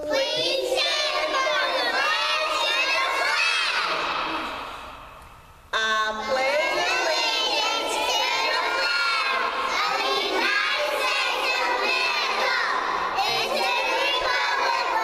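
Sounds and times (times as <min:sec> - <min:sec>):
teacher's voice: 0:00.0 - 0:04.8, 0:05.8 - 0:15.0
children chorusing in unison: 0:00.0 - 0:05.1, 0:06.2 - 0:15.0.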